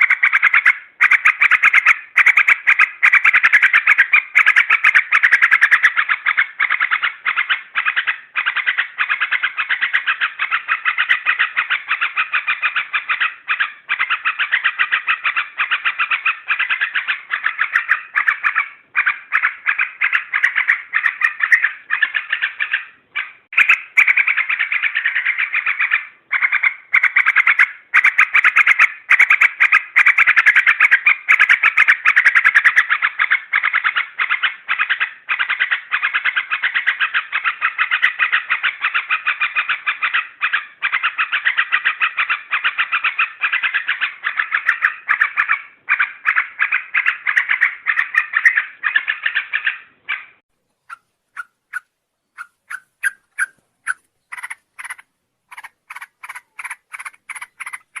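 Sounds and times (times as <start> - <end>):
bird chattering song: 0.0 - 58.0
short bird calls: 0.0 - 58.0.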